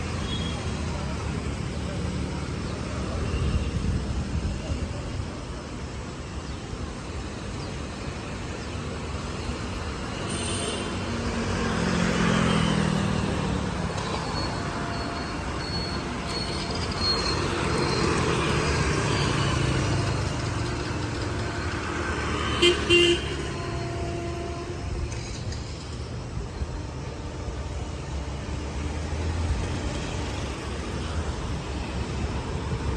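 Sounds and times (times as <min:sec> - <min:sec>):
vehicles passing: 0:00.0 - 0:32.9.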